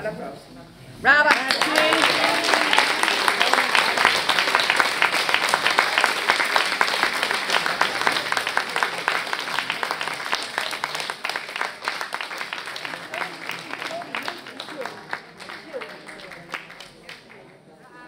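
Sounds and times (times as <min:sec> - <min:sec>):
audience applauding: 0:01.2 - 0:17.5.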